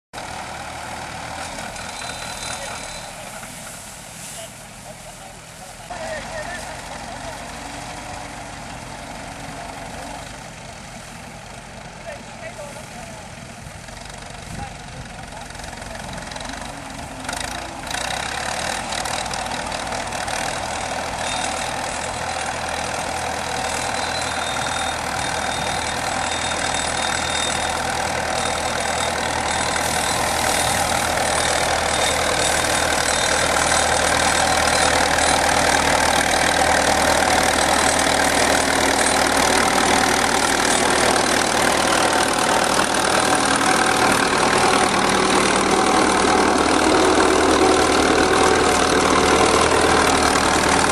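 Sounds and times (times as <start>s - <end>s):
tractor engine running: 0.2s - 50.9s.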